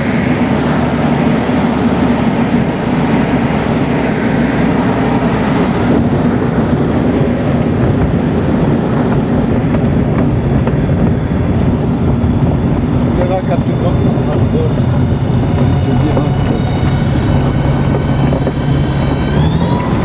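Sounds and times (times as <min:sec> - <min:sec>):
aircraft engine idling: 0:00.0 - 0:20.0.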